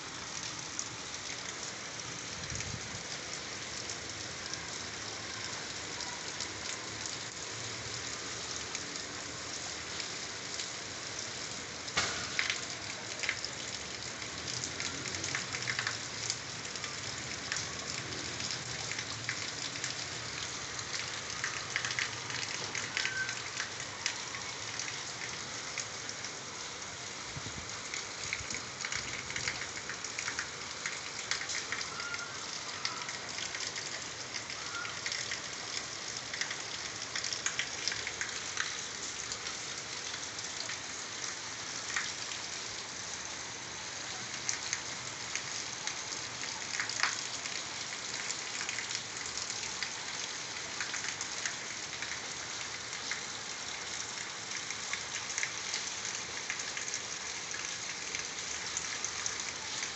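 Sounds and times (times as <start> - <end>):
rain on concrete: 0.0 - 59.9.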